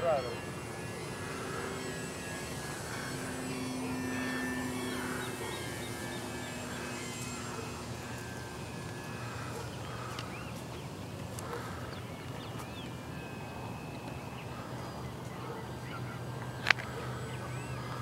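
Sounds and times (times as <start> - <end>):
model airplane motor hum: 0.0 - 18.0.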